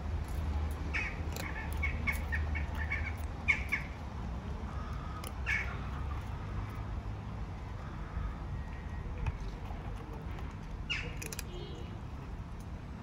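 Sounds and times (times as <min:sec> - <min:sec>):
cats crunching dry kibble: 0:00.1 - 0:12.7
small birds chirping: 0:00.8 - 0:13.0.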